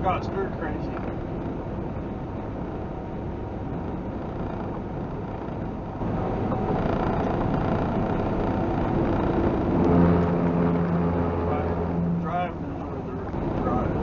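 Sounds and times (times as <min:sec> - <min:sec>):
road and tyre noise: 0:00.0 - 0:14.0
truck engine rumble: 0:00.0 - 0:14.0.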